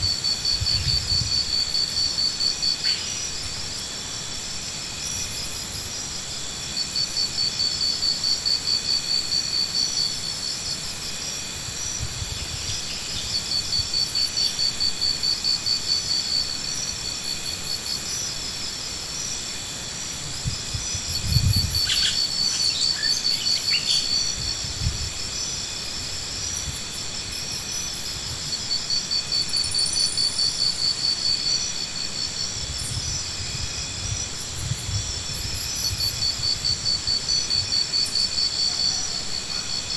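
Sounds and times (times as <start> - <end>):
insects high-pitched trills: 0.0 - 39.9
loud pulsing insect trill: 0.0 - 39.9.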